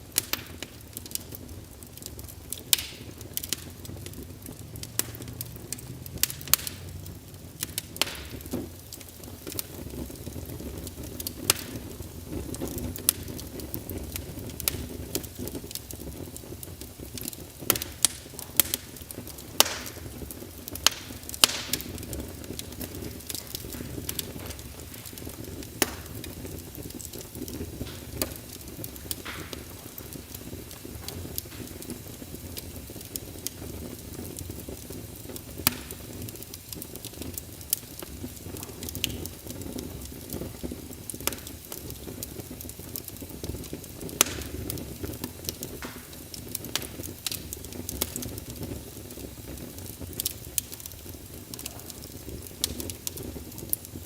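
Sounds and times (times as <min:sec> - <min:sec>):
fire crackling and popping: 0:00.0 - 0:54.0
low fire rumble: 0:00.0 - 0:54.0.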